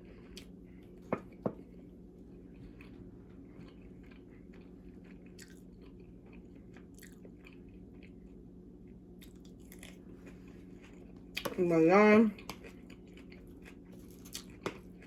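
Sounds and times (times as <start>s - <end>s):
person chewing food: 0.0s - 11.6s, 12.3s - 15.0s
steady low hum: 0.0s - 15.0s.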